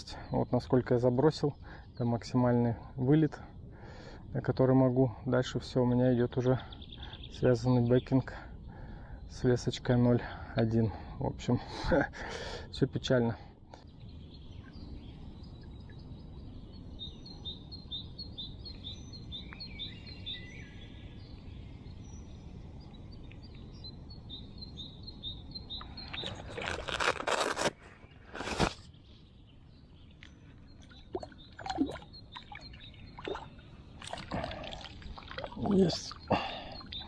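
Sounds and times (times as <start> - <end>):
songbird chirping: 0.0 - 12.1, 12.8 - 37.0.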